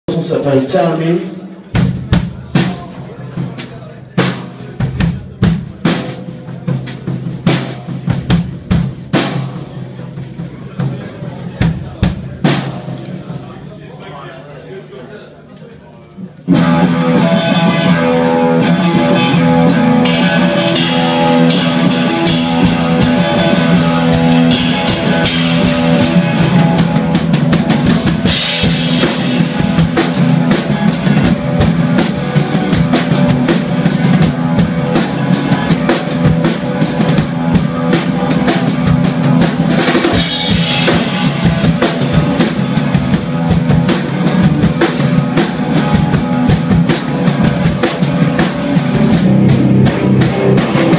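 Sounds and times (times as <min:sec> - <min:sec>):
live rock band playing: 0:00.1 - 0:14.6, 0:16.2 - 0:50.9.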